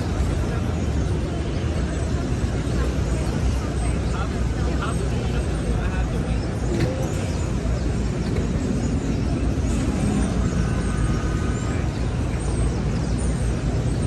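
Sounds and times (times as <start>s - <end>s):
passing vehicles rumble and hiss: 0.0s - 14.0s.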